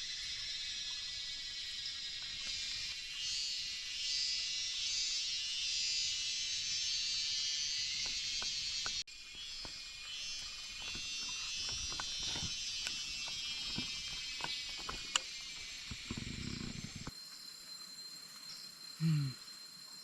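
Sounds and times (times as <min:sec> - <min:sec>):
shrill insect chorus: 0:00.0 - 0:20.0
single-pitched insect trill: 0:00.0 - 0:20.0.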